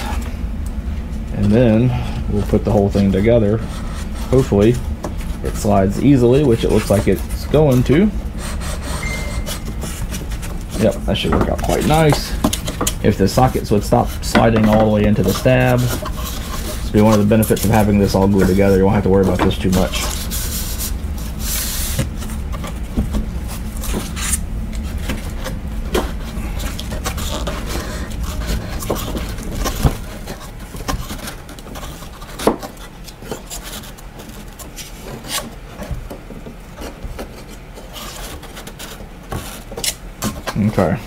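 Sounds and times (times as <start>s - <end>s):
foam part rubbing and scraping: 1.3s - 40.9s.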